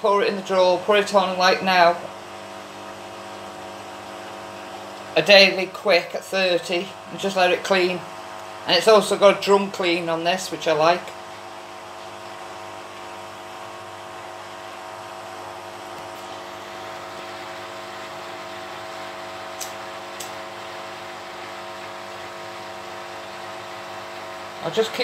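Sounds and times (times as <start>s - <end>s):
washing machine motor hum: 0.0s - 25.0s.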